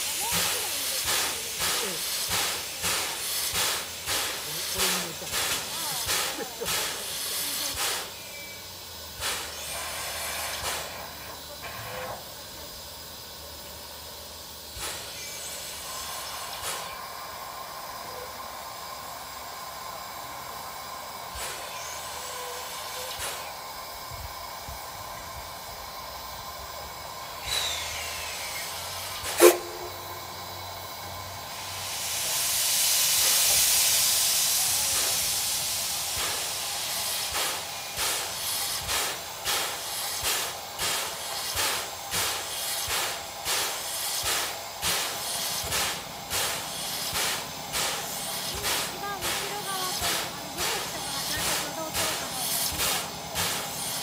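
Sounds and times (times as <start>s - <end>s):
loud steam blowing out: 0.0s - 54.0s
steam hissing: 0.0s - 54.0s.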